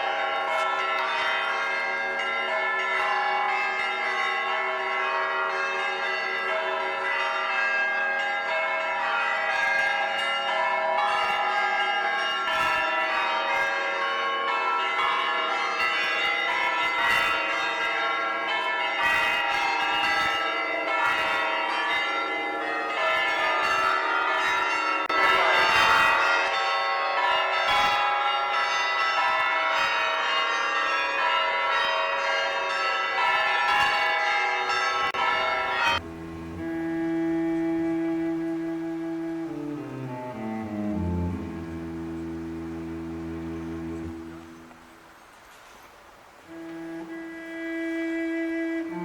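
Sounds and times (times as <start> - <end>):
church bells pealing: 0.0 - 45.1.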